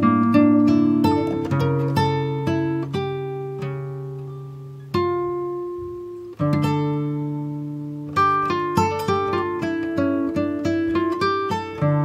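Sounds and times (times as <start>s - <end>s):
slow acoustic guitar picking: 0.0s - 12.0s.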